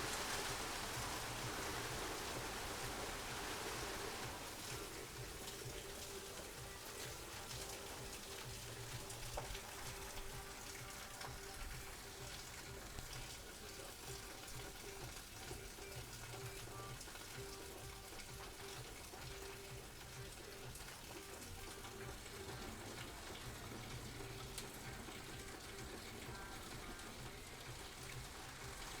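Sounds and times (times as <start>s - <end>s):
washing machine watery hiss: 0.0s - 29.0s.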